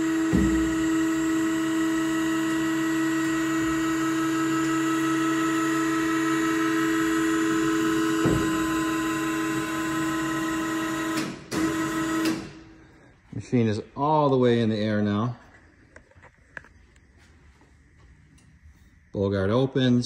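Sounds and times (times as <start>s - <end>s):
hydraulic lift whine: 0.0s - 20.0s.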